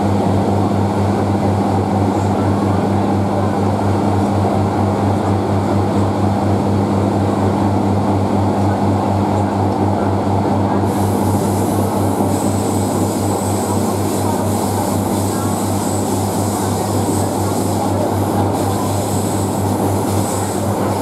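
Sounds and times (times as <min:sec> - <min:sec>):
train running on track: 0:00.0 - 0:21.0.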